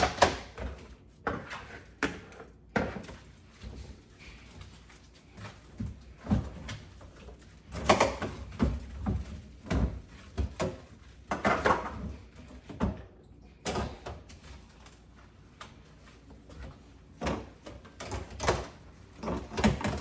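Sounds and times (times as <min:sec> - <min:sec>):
knocks and scraping in a sink: 0:00.0 - 0:14.9, 0:15.6 - 0:20.0.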